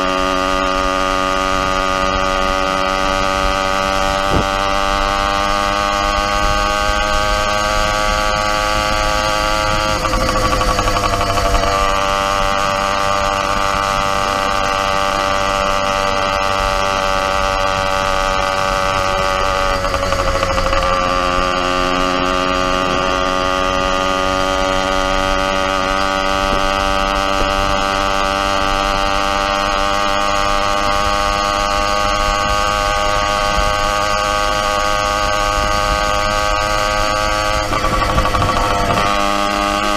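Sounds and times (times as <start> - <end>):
motorized bicycle engine running: 0.0 - 39.9.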